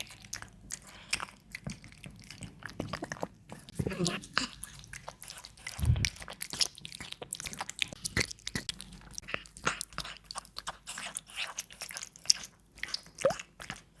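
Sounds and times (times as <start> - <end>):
cat crunching food: 0.0 - 14.0.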